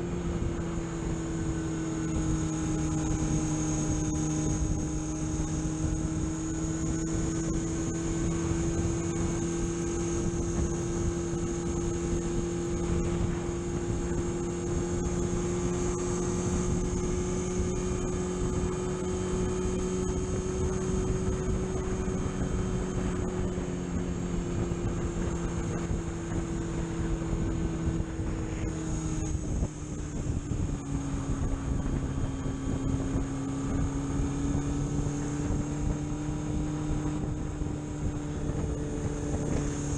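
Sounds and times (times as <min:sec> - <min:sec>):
road and wind noise: 0:00.0 - 0:39.9
vehicle engine drone: 0:00.0 - 0:39.9.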